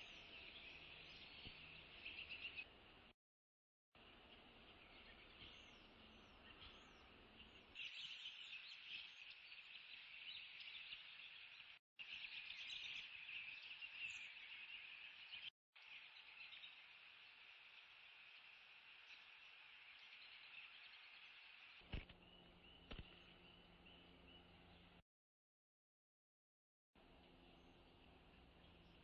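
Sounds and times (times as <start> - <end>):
small birds chirping: 0.0 - 3.1, 4.0 - 25.0, 27.0 - 29.0.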